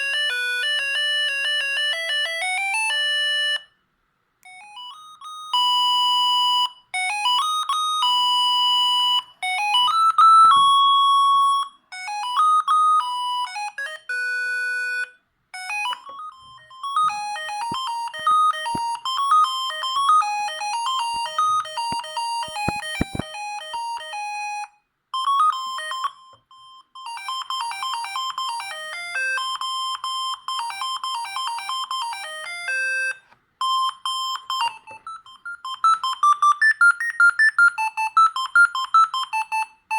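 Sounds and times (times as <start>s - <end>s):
mobile phone ringtone melodies: 0.0s - 3.8s, 4.4s - 39.9s.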